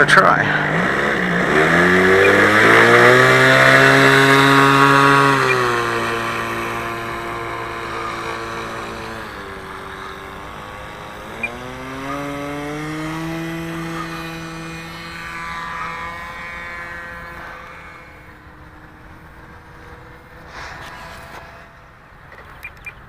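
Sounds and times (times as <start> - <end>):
model plane engine in flight: 0.0 - 23.0.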